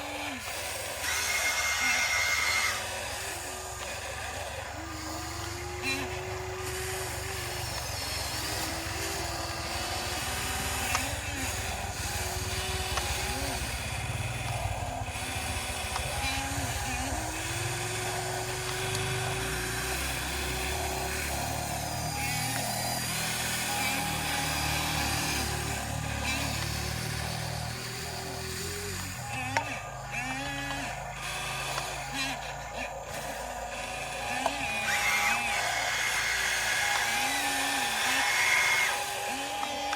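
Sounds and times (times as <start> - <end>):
motor whine: 0.0 - 39.9.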